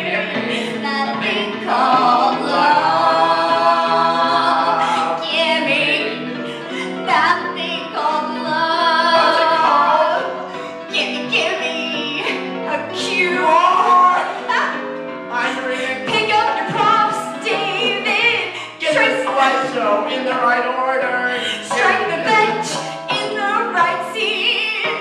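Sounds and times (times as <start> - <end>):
musical accompaniment: 0.0 - 25.0
person singing: 0.0 - 25.0.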